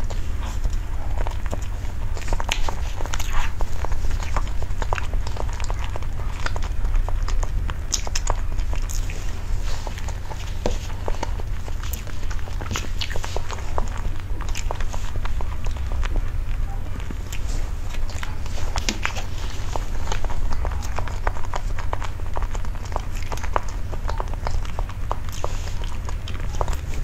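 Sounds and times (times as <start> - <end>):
chewing with wet mouth clicks: 0.0 - 27.0
steady low hum: 0.0 - 27.0.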